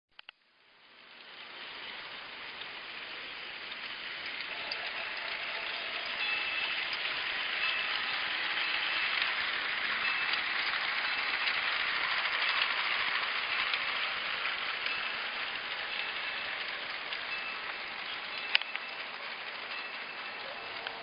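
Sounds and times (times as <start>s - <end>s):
toy train whirring rattle: 0.7s - 21.0s.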